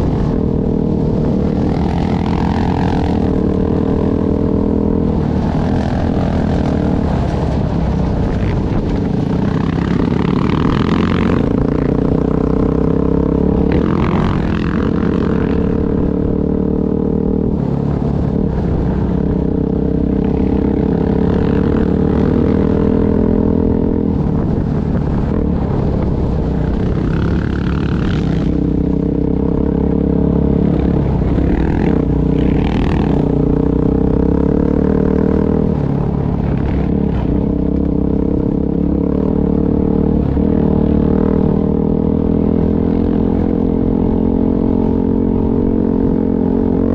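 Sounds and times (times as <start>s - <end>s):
off-road vehicle engine running: 0.0s - 46.9s.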